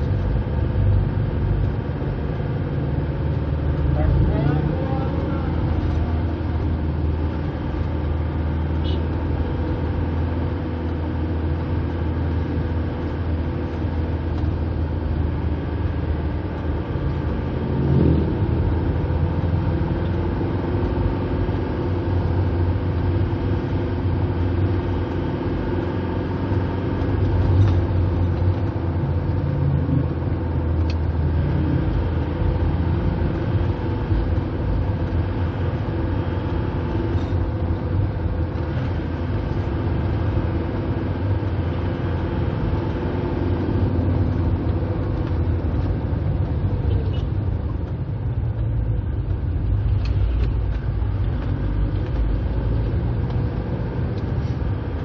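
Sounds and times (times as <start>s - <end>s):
car engine hum: 0.0s - 55.0s
tyre and road noise: 0.0s - 55.0s.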